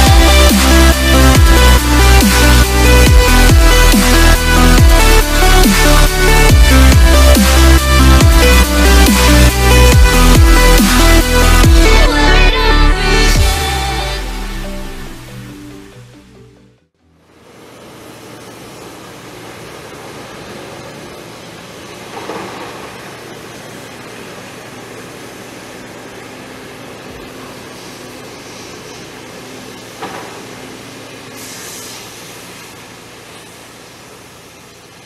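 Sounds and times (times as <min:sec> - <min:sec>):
machinery running: 0:00.0 - 0:35.0.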